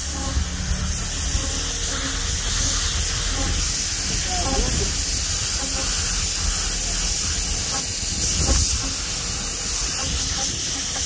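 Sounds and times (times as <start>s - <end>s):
paint spray gun hissing: 0.0s - 11.0s.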